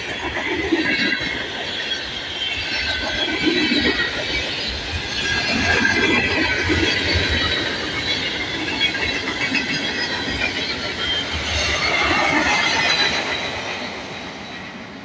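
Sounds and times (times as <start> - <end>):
train rumbling on rails: 0.0 - 15.0
wheels squealing against rail: 0.0 - 15.0.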